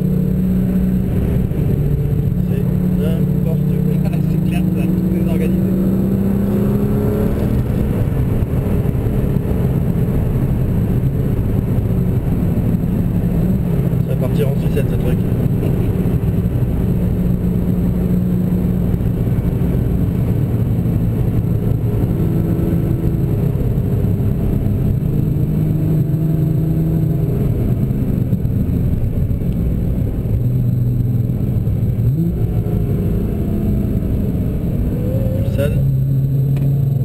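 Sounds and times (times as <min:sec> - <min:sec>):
car engine drone from inside: 0:00.0 - 0:37.0
road noise: 0:00.0 - 0:37.0.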